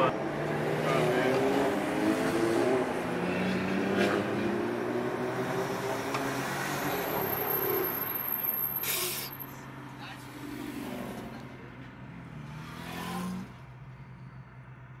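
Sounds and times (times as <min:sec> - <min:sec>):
car engines in traffic: 0:00.0 - 0:15.0
road drone: 0:00.0 - 0:15.0.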